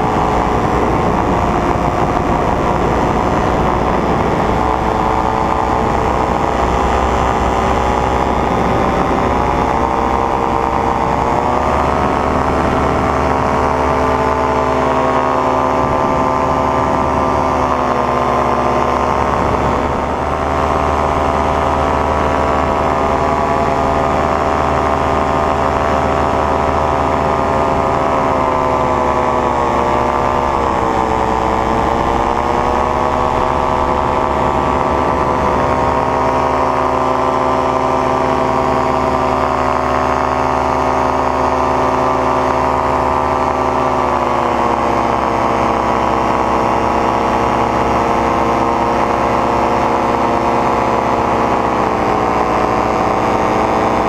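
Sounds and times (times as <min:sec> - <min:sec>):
paramotor engine drone: 0:00.0 - 0:54.0.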